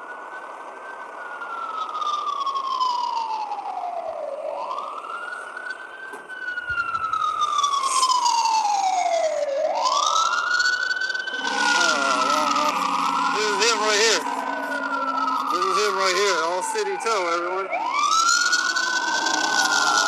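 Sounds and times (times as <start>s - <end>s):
emergency vehicle siren wailing: 0.0s - 20.0s.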